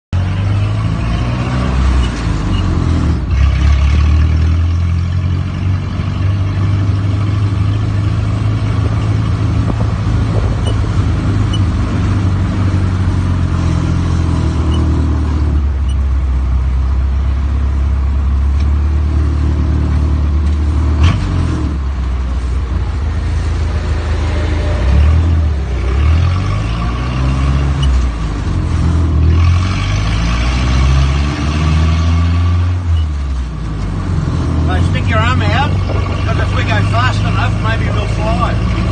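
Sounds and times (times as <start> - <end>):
car engine running while driving: 0.1 - 38.9.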